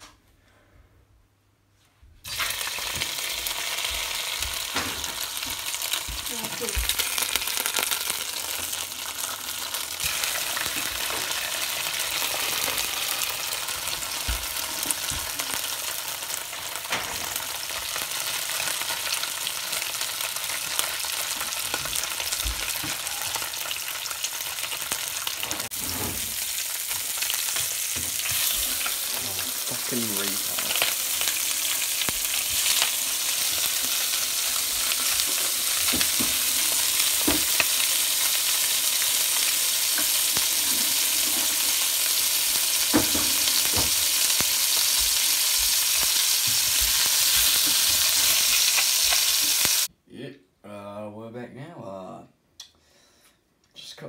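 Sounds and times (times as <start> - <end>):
fish frying in hot oil: 2.2 - 49.9
oil crackles and pops: 2.2 - 49.9.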